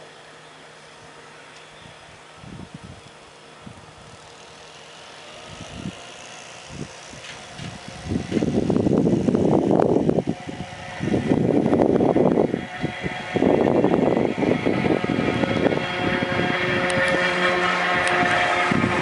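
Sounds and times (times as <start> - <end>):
electric locomotive passing: 0.0 - 19.0
wheel and rail rumble and clatter: 0.0 - 19.0.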